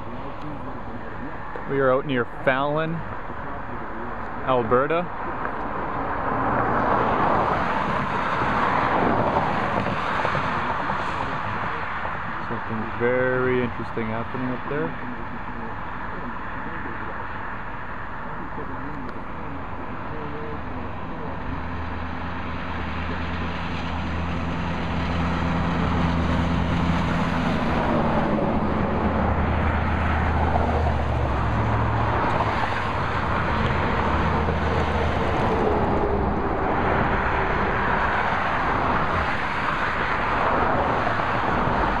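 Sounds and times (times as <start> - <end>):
truck diesel engine passing: 0.0 - 42.0
tyre and road noise: 0.0 - 42.0.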